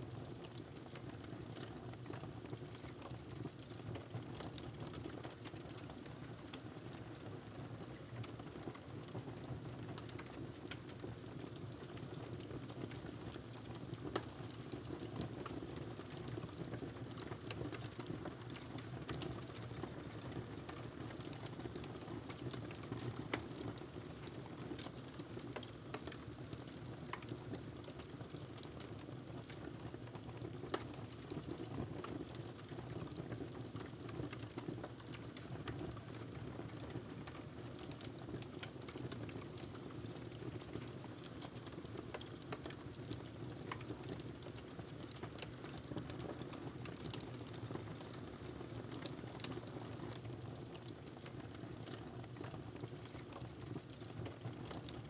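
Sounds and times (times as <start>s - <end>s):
wood fire crackling and popping: 9.7s - 55.0s.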